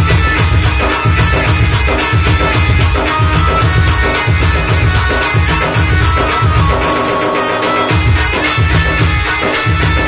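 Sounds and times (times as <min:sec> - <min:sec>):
electronic drum pad: 0:00.0 - 0:10.0
frame drum beat: 0:00.0 - 0:10.0
keyboard melody: 0:00.0 - 0:10.0.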